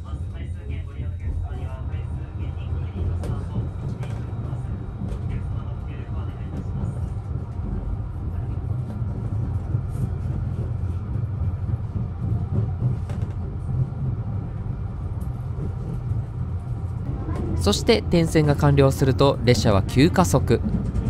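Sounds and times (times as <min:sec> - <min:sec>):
train rumble from inside: 0:00.0 - 0:21.0.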